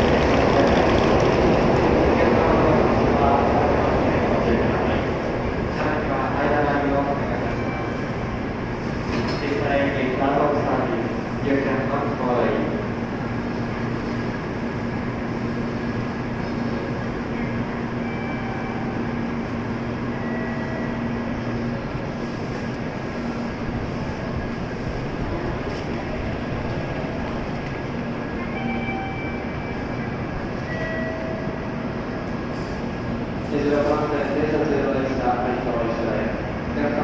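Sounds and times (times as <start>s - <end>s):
train rumbling at platform: 0.0s - 37.0s.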